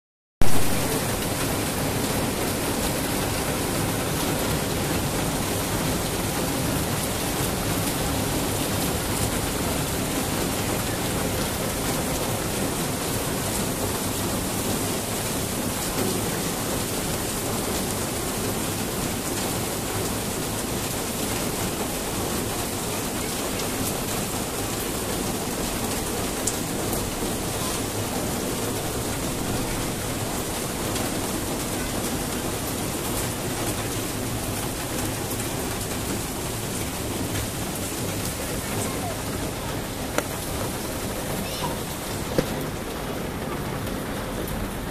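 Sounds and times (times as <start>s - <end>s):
heavy rain falling: 0.4s - 44.9s.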